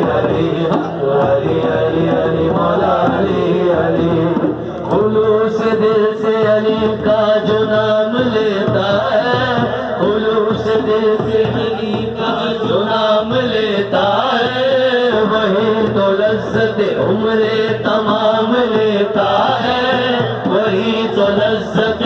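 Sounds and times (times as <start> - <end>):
frame drums: 0.0 - 22.0
hand drum beat: 0.0 - 22.0
man chanting into a microphone: 0.0 - 22.0.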